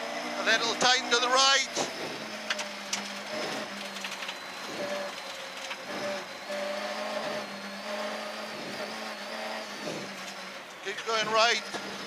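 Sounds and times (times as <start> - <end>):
car engine drone: 0.0 - 12.0
road noise: 0.0 - 12.0
steady hum: 0.1 - 12.0.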